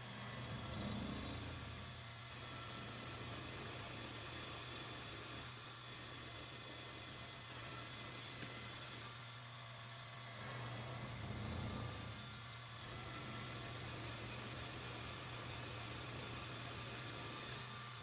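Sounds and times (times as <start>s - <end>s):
shop machine humming: 0.0s - 18.0s.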